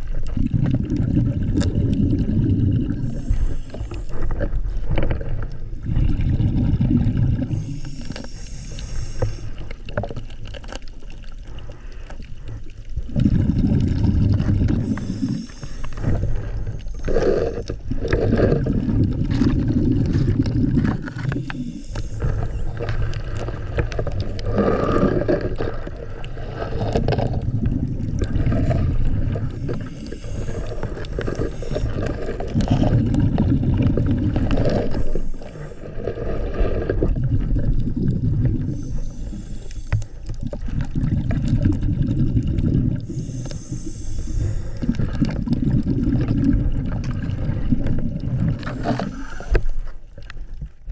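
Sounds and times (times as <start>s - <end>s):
underwater bubbles gurgling: 0.0s - 50.9s.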